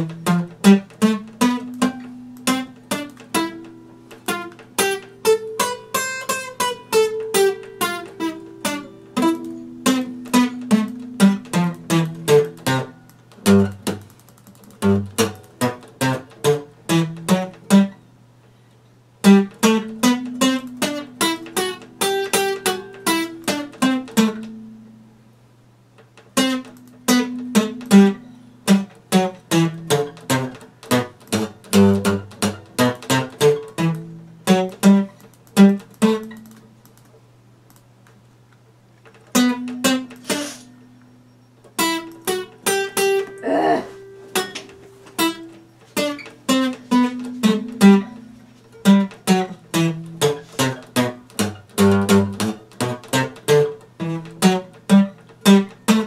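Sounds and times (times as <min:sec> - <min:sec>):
acoustic guitar plucked: 0:00.0 - 0:18.2, 0:19.2 - 0:25.3, 0:25.9 - 0:37.0, 0:39.0 - 0:56.0.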